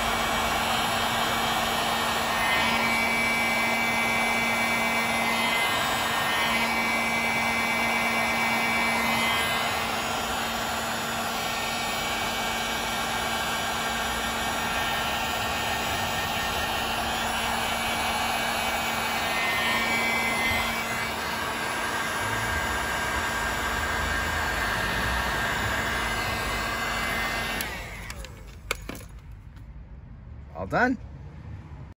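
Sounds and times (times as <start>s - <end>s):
heat gun blowing: 0.0s - 29.0s.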